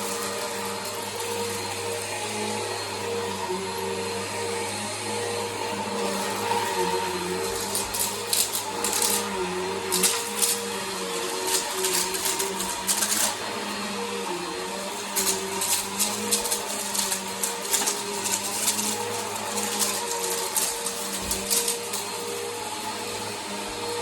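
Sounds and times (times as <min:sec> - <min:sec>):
vacuum cleaner motor humming: 0:00.0 - 0:24.0.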